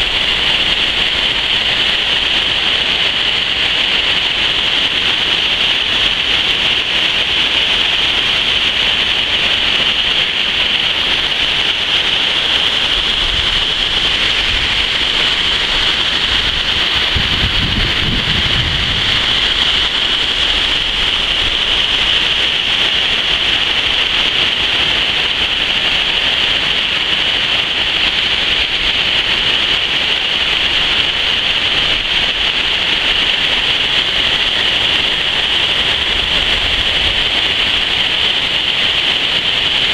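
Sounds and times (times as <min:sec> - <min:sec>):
water rushing through rapids: 0:00.0 - 0:39.9.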